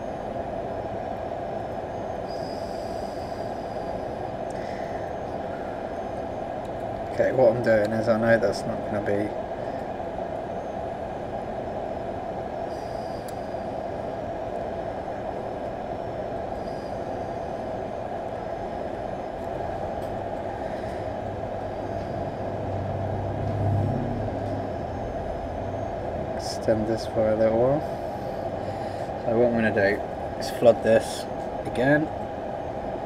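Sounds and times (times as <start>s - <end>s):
hot air station blowing air: 0.0s - 33.0s
low hum: 0.0s - 33.0s.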